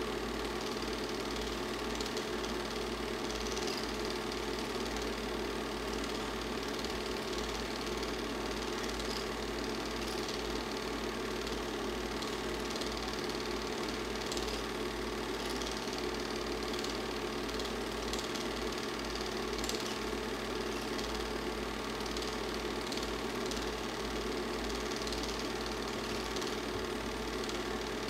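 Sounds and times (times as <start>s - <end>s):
film projector whirring and clattering: 0.0s - 28.0s.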